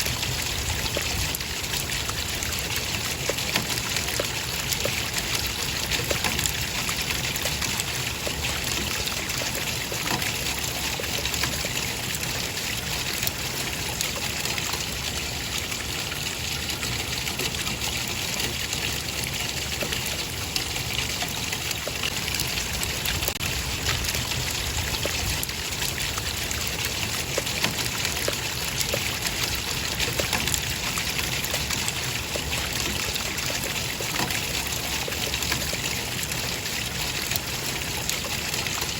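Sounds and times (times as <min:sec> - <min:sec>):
running water trickling and splashing: 0:00.0 - 0:38.9.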